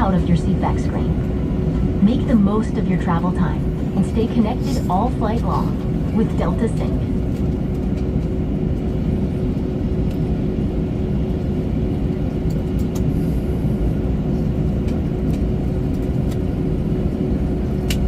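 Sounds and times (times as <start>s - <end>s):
airplane cabin rumble and hiss: 0.0s - 18.0s
constant hum: 0.0s - 18.0s.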